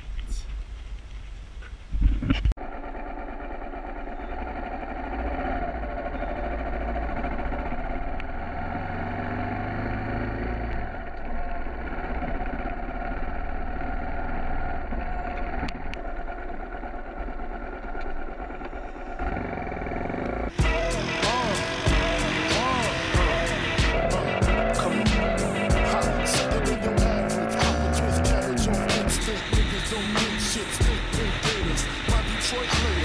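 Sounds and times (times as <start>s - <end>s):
motorcycle engine running: 2.6s - 33.0s.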